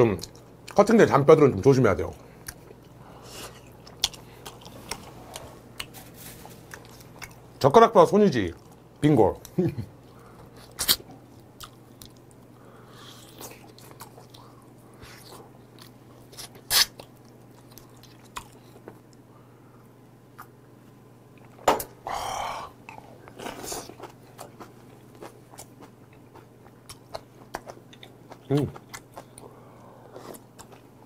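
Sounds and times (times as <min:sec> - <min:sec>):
man chewing meat: 0:02.2 - 0:07.6, 0:08.5 - 0:20.6, 0:22.2 - 0:31.0.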